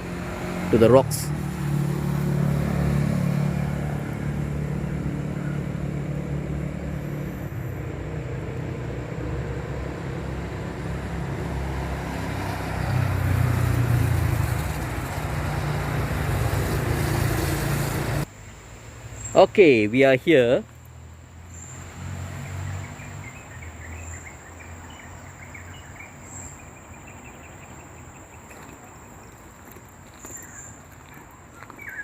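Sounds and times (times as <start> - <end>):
traffic rumble: 0.0 - 32.0.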